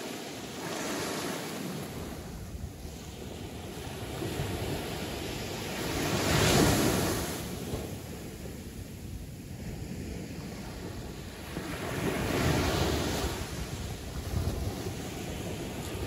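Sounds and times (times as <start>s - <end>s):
waves washing onto shore: 0.0s - 16.0s.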